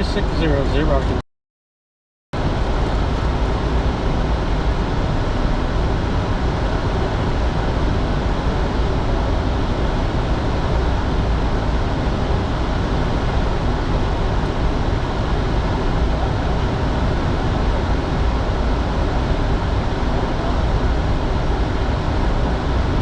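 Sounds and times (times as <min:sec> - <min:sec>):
jet cockpit airflow and engine noise: 0:00.0 - 0:01.2, 0:02.4 - 0:23.0.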